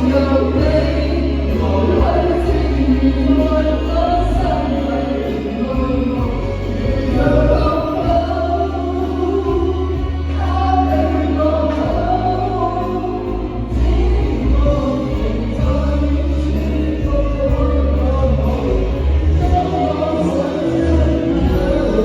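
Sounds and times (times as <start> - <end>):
live band playing pop song: 0.0 - 22.0
steady bass: 0.0 - 22.0
voices singing along: 0.0 - 22.0.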